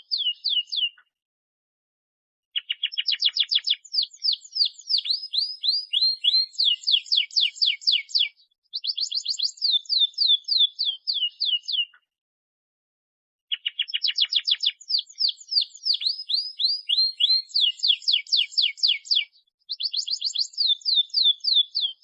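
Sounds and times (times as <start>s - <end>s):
canary singing trills: 0.0s - 1.0s, 2.6s - 12.0s, 13.5s - 22.0s.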